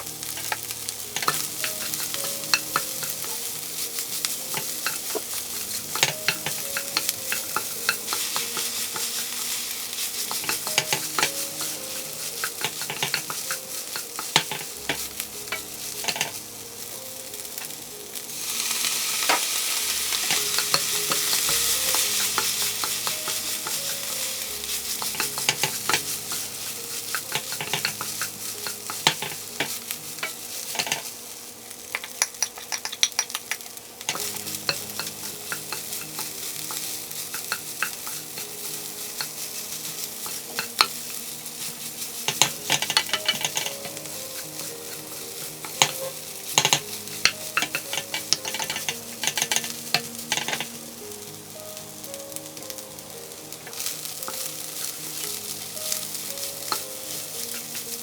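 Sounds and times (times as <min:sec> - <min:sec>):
rice sizzling in a frying pan: 0:00.0 - 0:58.0
spatula clicking on pan: 0:00.2 - 0:16.4, 0:18.7 - 0:31.1, 0:31.9 - 0:50.9, 0:53.6 - 0:58.0.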